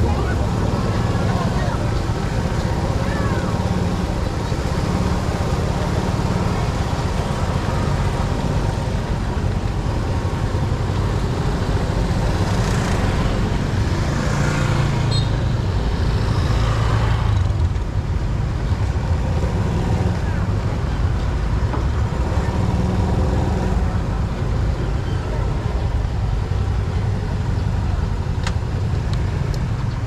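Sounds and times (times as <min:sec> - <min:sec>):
motorcycle engine and road rumble: 0:00.0 - 0:30.0.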